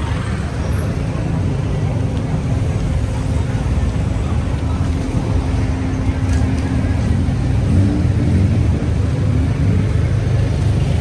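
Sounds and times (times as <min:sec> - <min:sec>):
vehicle engines rumbling: 0:00.0 - 0:11.0.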